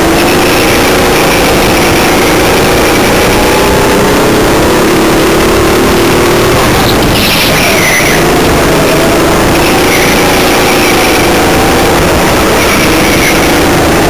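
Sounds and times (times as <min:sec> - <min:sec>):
go-kart engine revving: 0:00.0 - 0:14.0.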